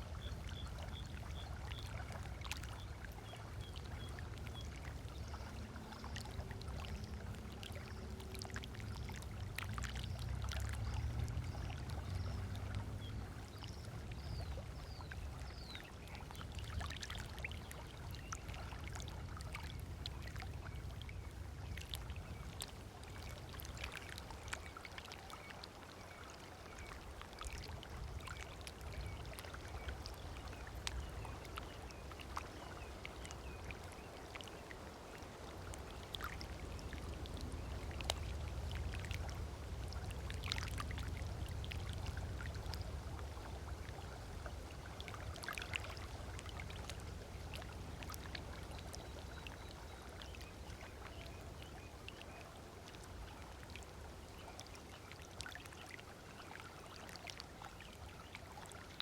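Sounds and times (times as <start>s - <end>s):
small waves lapping and splashing: 0.0s - 59.0s.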